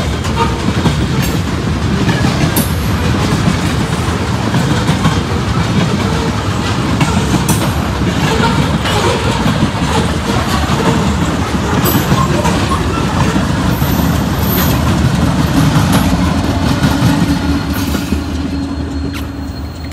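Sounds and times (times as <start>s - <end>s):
freight train wheels rumbling: 0.0s - 19.9s
train wheels clattering over joints: 0.0s - 19.9s.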